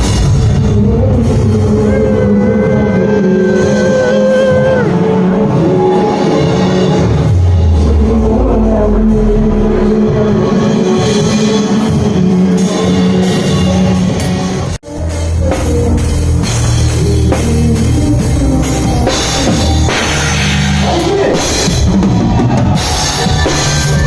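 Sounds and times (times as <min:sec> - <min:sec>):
bass: 0:00.0 - 0:24.0
drum kit: 0:00.0 - 0:24.0
guitar: 0:00.0 - 0:24.0.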